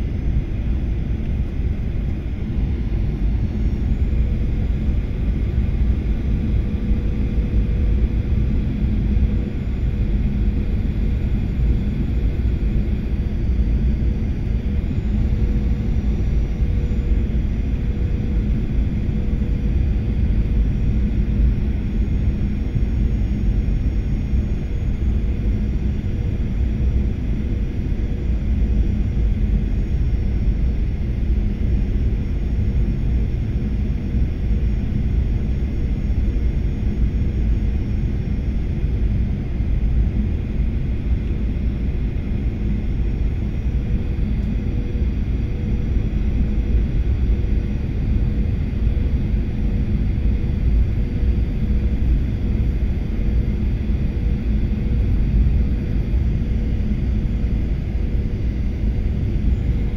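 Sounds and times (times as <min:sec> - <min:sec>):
airliner engines rumbling: 0:00.0 - 0:59.9
faint steady hum: 0:00.0 - 0:59.9.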